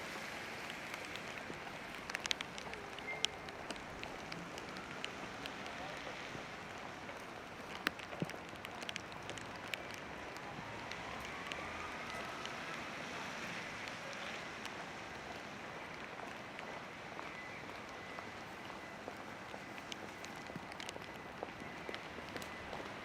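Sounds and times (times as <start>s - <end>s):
rain on street: 0.0s - 23.0s.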